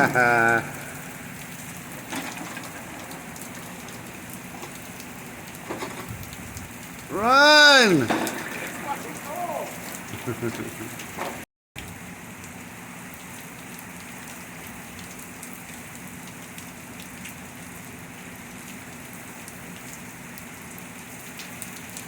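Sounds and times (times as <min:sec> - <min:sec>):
raindrop ticks: 0:00.0 - 0:07.1, 0:08.1 - 0:22.0
heavy rain falling: 0:00.0 - 0:22.0.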